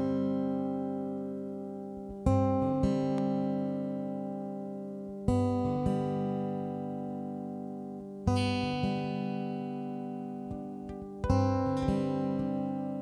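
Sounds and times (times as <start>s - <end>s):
acoustic guitar chords ringing: 0.0s - 13.0s.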